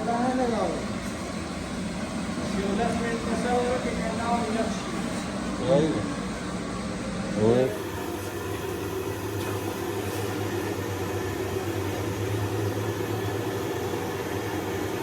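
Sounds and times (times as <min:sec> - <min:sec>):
generator engine humming: 0:00.0 - 0:15.0.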